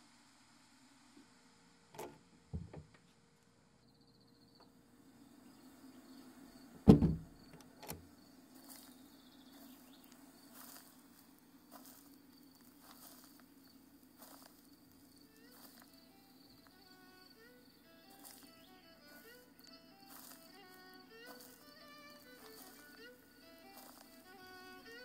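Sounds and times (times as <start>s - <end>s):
crickets chirping: 3.6s - 25.0s.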